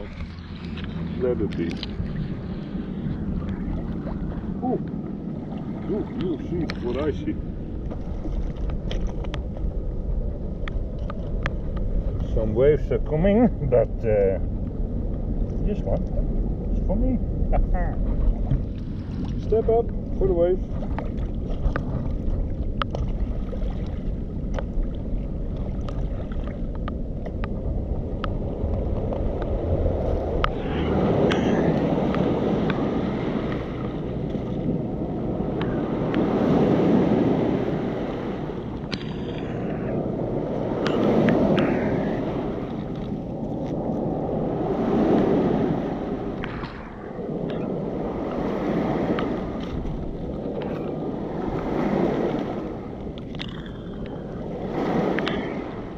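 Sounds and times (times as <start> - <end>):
waves on stony shore: 0.0 - 9.8, 16.9 - 55.9
wind rumble on microphone: 0.0 - 55.9.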